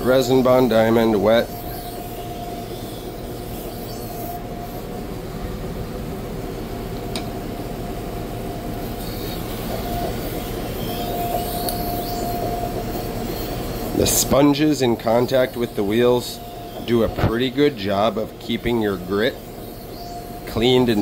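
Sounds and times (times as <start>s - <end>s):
sharpening machine grinding knife: 0.0s - 5.1s, 8.4s - 21.0s.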